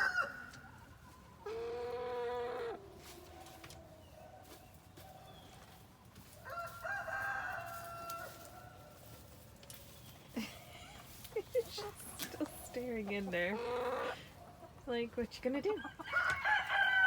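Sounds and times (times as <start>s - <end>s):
chickens calling: 0.0s - 17.0s.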